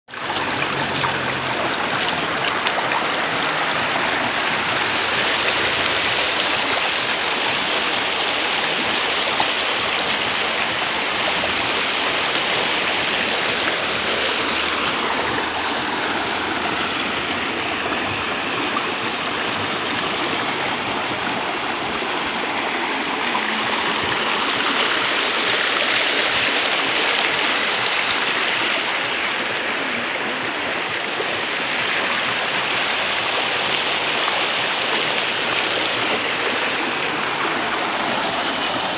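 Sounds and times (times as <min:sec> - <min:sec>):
river water rushing over rocks: 0:00.1 - 0:38.9.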